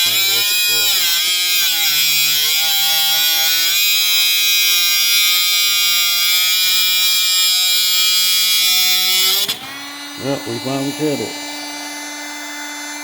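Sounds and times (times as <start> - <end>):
angle grinder cutting steel: 0.0 - 13.0.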